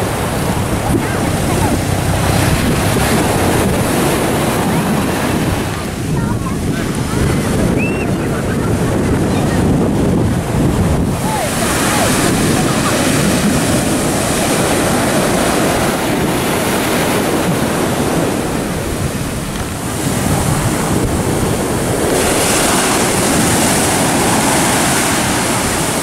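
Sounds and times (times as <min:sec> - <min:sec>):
ocean surf breaking: 0:00.0 - 0:26.0
wind on microphone: 0:00.0 - 0:26.0.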